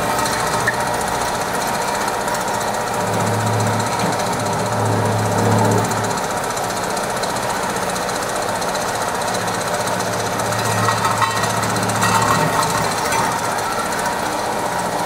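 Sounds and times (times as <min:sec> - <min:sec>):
low engine hum: 0:00.0 - 0:15.0
machine hammering rattle: 0:00.0 - 0:15.0.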